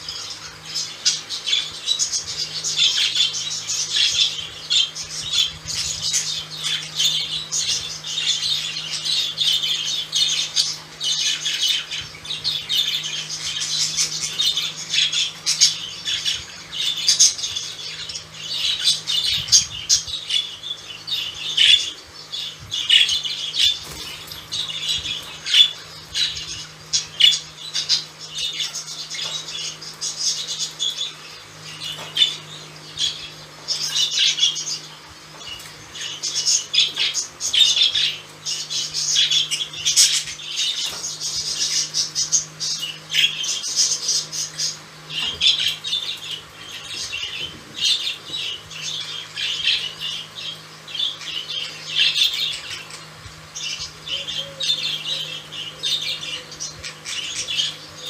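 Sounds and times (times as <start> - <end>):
budgies chattering: 0.0 - 58.0.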